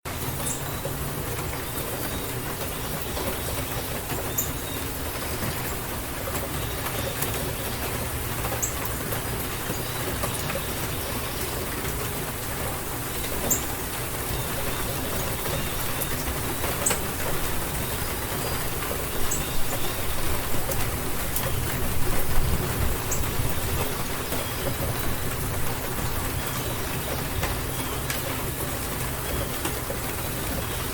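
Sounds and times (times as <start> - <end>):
rain drops ticking: 0.1 - 30.9
steady rain falling: 0.1 - 30.9.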